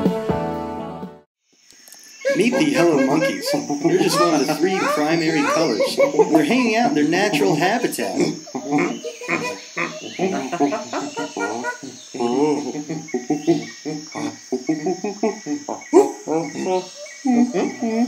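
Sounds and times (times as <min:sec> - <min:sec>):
crickets chirring: 0:01.4 - 0:18.0
person making vocal sounds: 0:02.2 - 0:18.0.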